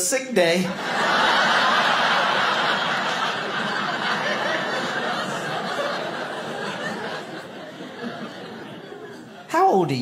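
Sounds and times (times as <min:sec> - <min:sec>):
audience laughing: 0:00.6 - 0:09.5.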